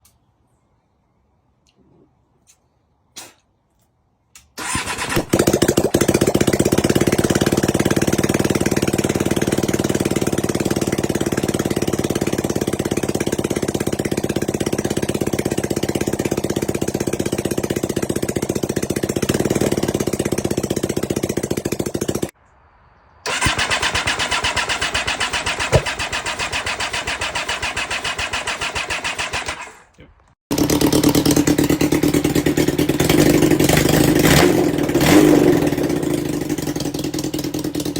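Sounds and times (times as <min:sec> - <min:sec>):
motorcycle engine starting and running: 0:04.6 - 0:22.4, 0:23.2 - 0:37.9.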